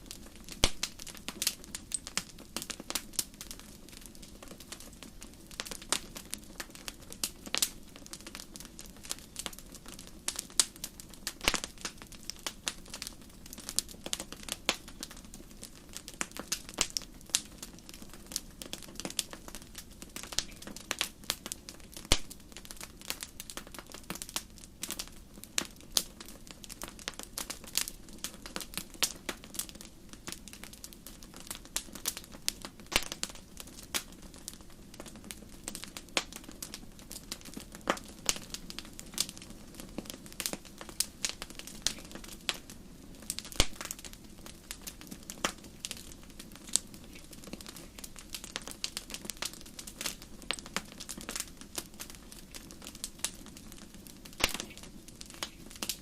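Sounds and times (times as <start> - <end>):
low hiss of flame: 0.0 - 56.0
campfire pops and snaps: 0.2 - 56.0.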